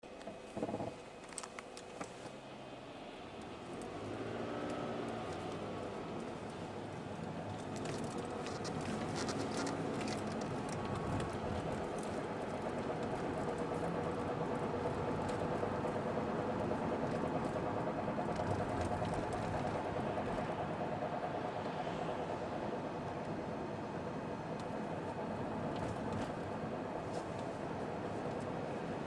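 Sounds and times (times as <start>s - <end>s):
faint transmission whine: 0.0s - 29.0s
vehicle engine drone: 0.1s - 29.0s.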